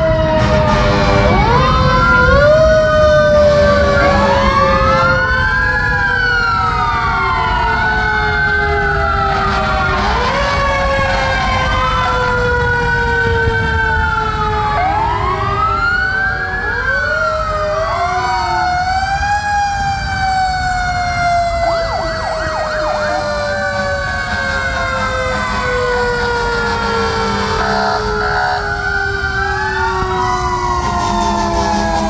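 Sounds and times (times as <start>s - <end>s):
fire truck sirens wailing: 0.0s - 32.0s
siren yelping: 0.0s - 32.0s.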